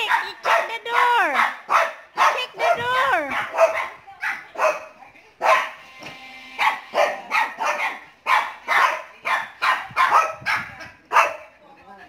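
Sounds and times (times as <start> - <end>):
small dog barking sharply: 0.0 - 5.8, 6.6 - 11.4.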